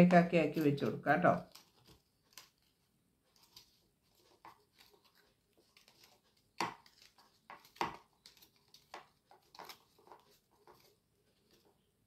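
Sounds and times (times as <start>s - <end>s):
paper rustling and crinkling: 0.5s - 12.0s.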